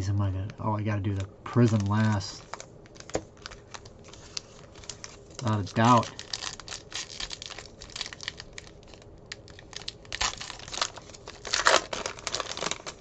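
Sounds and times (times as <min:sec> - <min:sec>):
card pack wrapper tearing: 0:01.6 - 0:13.0.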